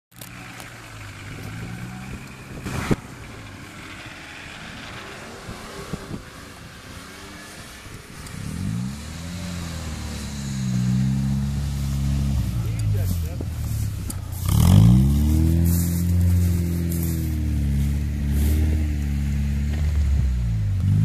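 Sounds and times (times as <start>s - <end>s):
off-road engines running: 0.1s - 21.0s
engine revving up: 1.0s - 13.4s, 14.3s - 21.0s.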